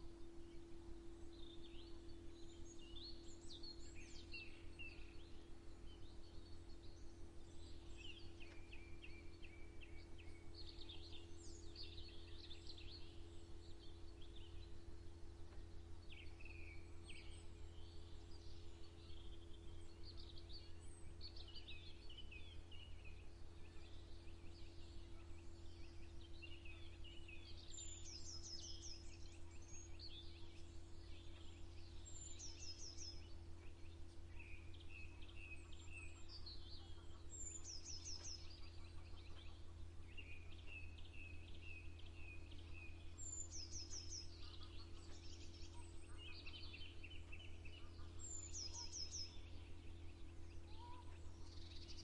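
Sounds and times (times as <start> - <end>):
songbirds singing: 0.0 - 52.0
steady low hum: 0.0 - 52.0.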